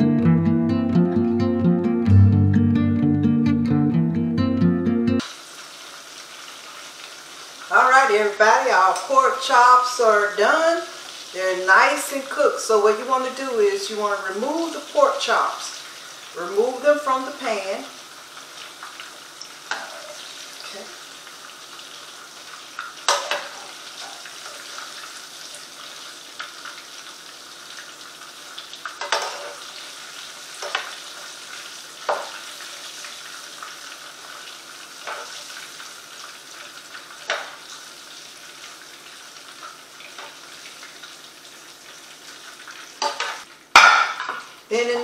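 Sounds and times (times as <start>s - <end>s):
oil sizzling in a frying pan: 5.2s - 45.0s.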